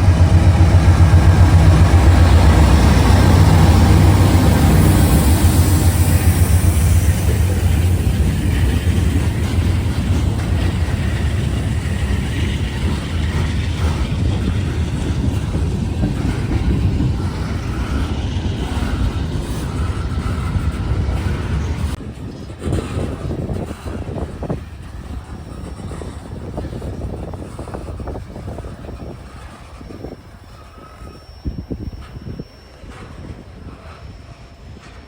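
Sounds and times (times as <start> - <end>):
freight cars rumbling: 0.0 - 33.9
diesel locomotive engine drone: 0.0 - 35.0.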